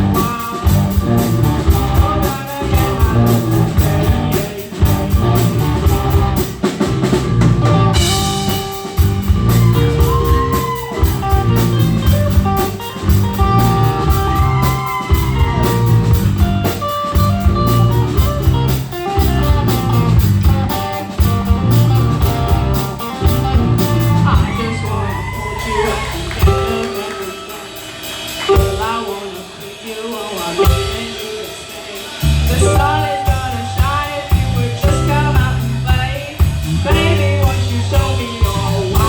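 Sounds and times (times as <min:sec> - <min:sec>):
rock band playing live: 0:00.0 - 0:39.0.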